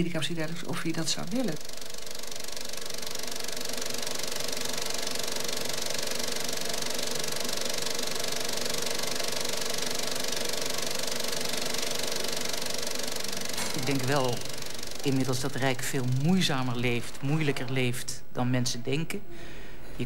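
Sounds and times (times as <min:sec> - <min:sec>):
film projector clattering: 0:00.0 - 0:18.0.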